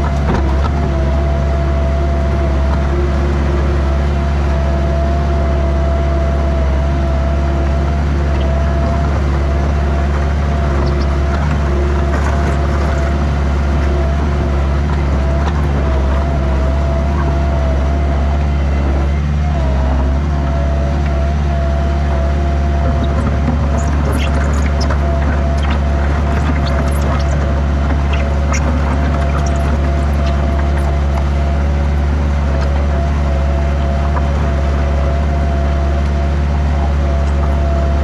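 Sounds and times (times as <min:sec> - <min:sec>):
heavy engine running with whine: 0:00.0 - 0:38.0.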